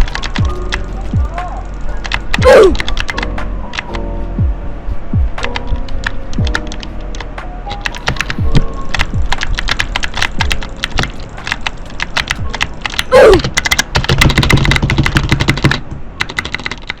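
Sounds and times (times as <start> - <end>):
mechanical keyboard clicking: 0.0 - 4.0, 5.4 - 17.0.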